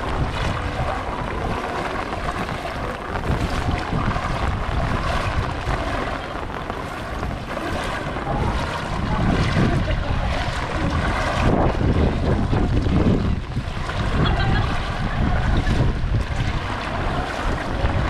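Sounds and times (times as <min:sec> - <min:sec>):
wading through floodwater: 0:00.0 - 0:18.0
wind buffeting microphone: 0:00.0 - 0:18.0.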